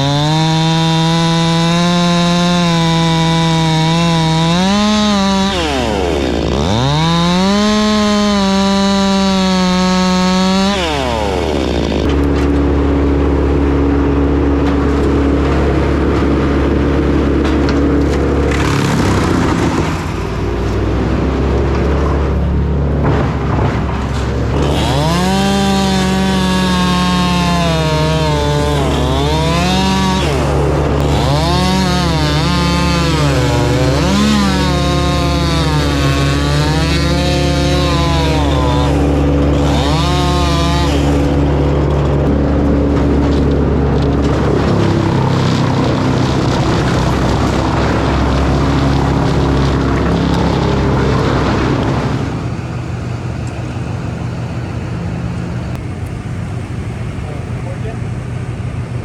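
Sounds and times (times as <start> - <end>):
chainsaw cutting log: 0.0 - 53.7.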